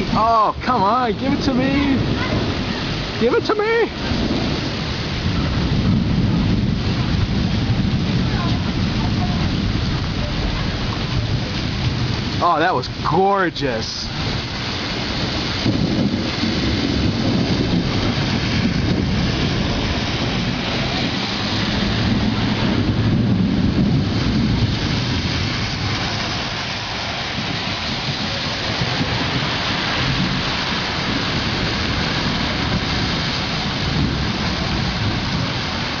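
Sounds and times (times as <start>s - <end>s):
low rumble of thunder: 0.0s - 13.1s, 13.8s - 36.0s
heavy rain falling: 0.0s - 36.0s.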